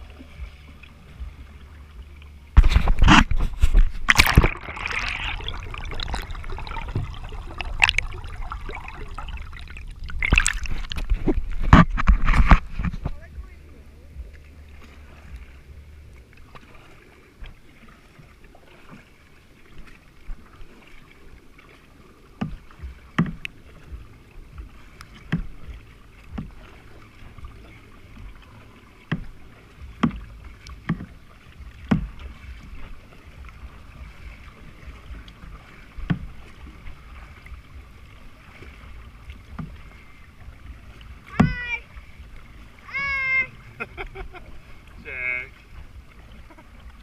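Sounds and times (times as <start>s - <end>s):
paddle knocks and splashes: 0.0s - 13.6s, 14.2s - 47.0s
low rumble: 0.0s - 17.6s, 22.6s - 47.0s.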